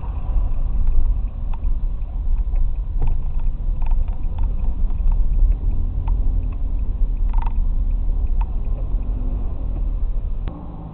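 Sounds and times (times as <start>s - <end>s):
motorcycle engine rumble: 0.0s - 10.9s.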